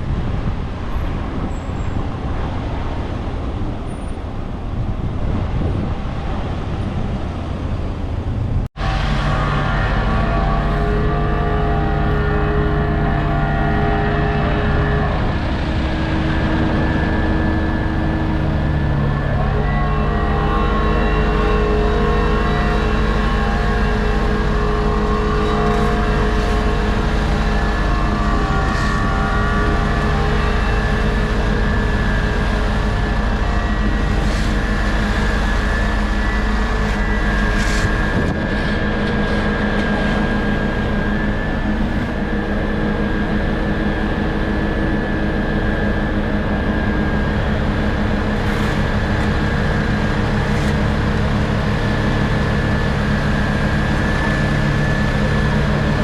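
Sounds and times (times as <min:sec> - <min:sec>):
paving machinery engines rumbling: 0:00.0 - 0:56.0.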